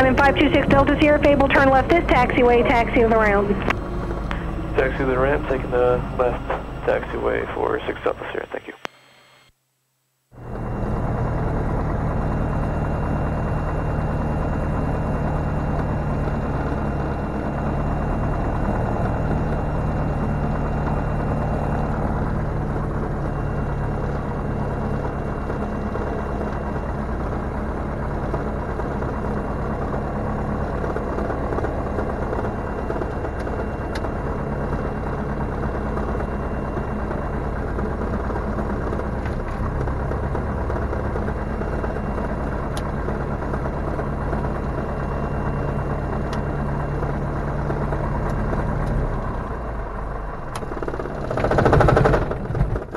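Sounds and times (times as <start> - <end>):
aircraft engine and propeller: 0.0 - 8.8, 10.4 - 52.9.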